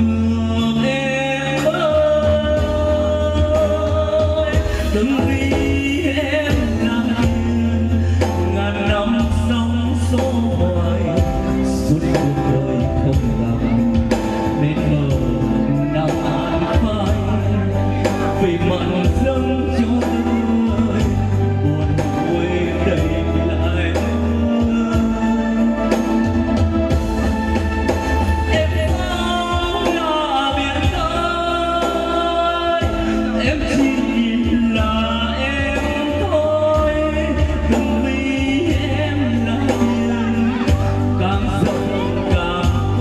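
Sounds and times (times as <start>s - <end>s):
backing track with bass line: 0.0s - 43.0s
man singing: 0.0s - 43.0s.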